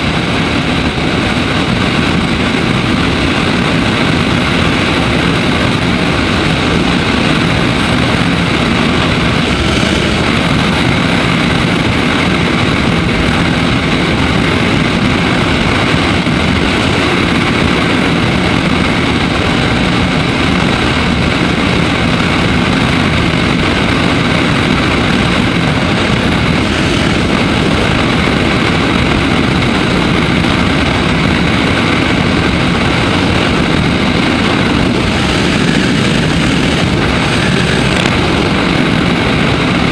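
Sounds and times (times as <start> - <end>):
motorcycle engine drone: 0.0 - 39.9
wind rush over microphone: 0.0 - 39.9.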